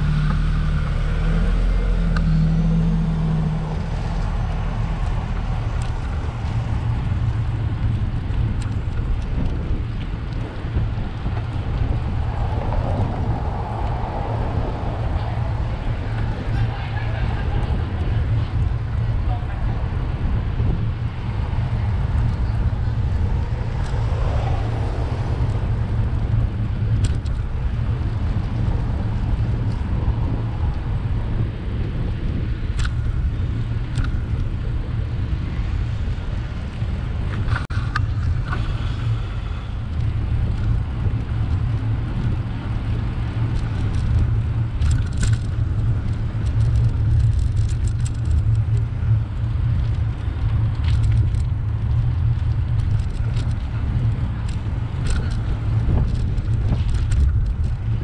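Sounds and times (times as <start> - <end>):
passing car traffic: 0.0 - 58.0
wind rumble on microphone: 0.0 - 58.0.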